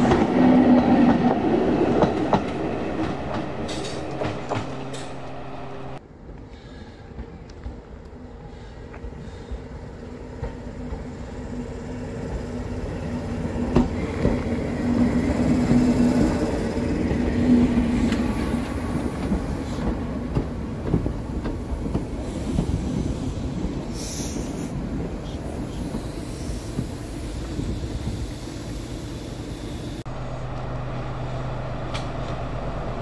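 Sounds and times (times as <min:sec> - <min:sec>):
train wheels clicking on rails: 0:00.0 - 0:30.0
diesel train engine hum: 0:00.0 - 0:33.0.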